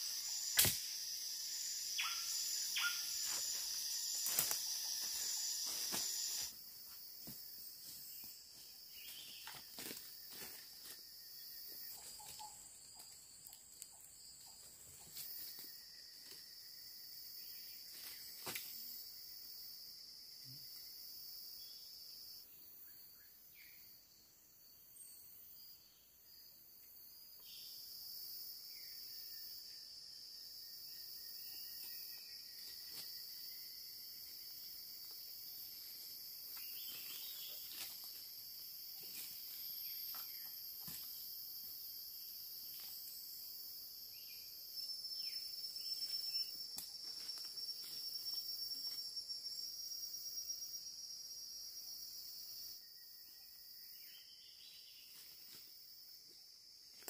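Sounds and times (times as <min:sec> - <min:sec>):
insects shrilling high-pitched: 0:00.0 - 0:24.0, 0:27.1 - 0:57.0.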